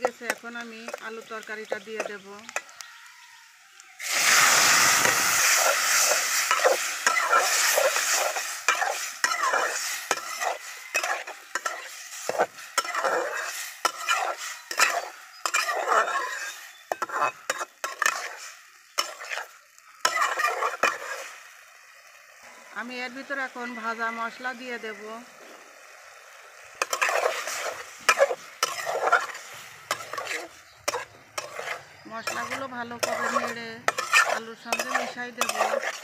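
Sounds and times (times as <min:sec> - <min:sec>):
metal spatula scraping a pan: 0:00.0 - 0:02.7, 0:04.0 - 0:21.6, 0:26.7 - 0:36.0
potatoes sizzling in oil: 0:00.0 - 0:36.0.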